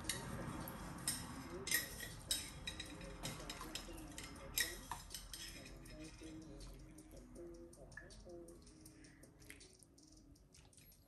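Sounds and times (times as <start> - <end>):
utensils and ceramic bowls clinking: 0.0 - 9.0.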